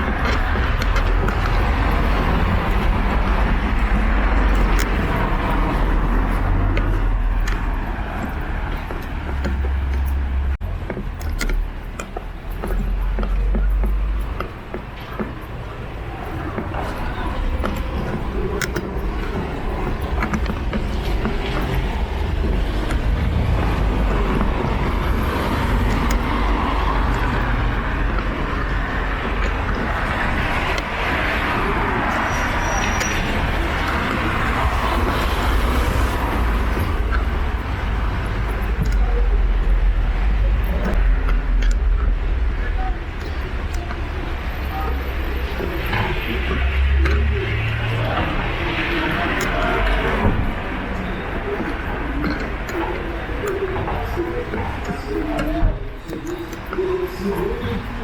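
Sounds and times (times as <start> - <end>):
cars passing on wet road: 0.0 - 11.7, 12.4 - 58.0
traffic engine rumble: 0.0 - 58.0
tyres rushing on wet asphalt: 0.0 - 58.0.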